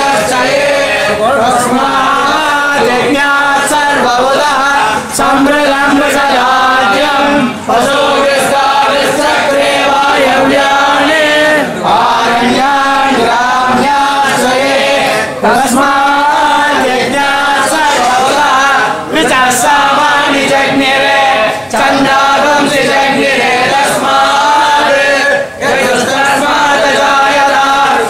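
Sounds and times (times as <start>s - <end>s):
men chanting a hymn: 0.0s - 28.0s.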